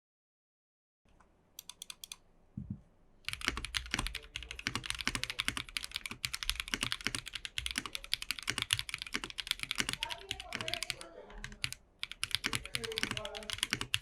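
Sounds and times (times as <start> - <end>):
mechanical keyboard typing: 1.6 - 2.2, 3.3 - 14.0.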